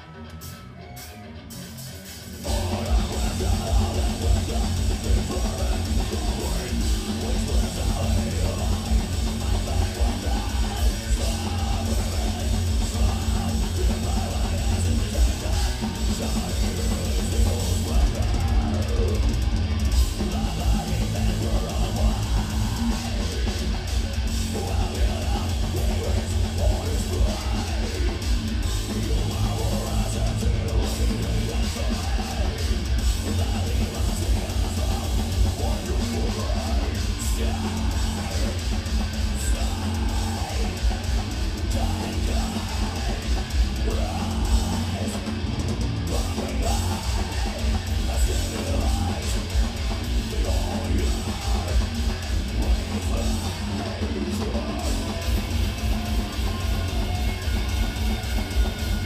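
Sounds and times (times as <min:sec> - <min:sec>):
distorted heavy metal guitars: 0:00.0 - 0:59.0
drum kit: 0:00.0 - 0:59.0.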